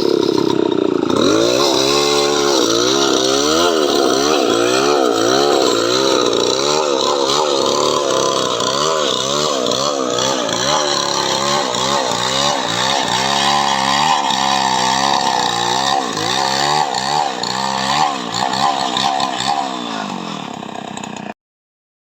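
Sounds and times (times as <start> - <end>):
chainsaw cutting wood: 0.0 - 21.4.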